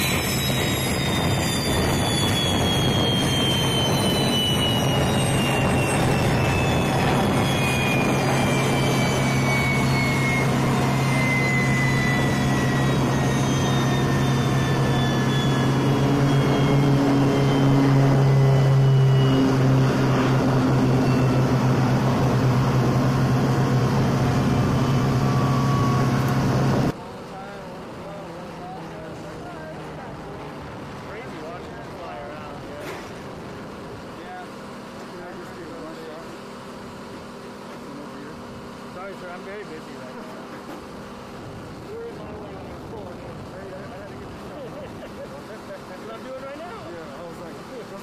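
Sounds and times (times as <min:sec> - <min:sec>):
low turbine drone: 0:00.0 - 0:48.0
truck engine: 0:00.0 - 0:48.0
turbine whine winding down: 0:00.0 - 0:48.0.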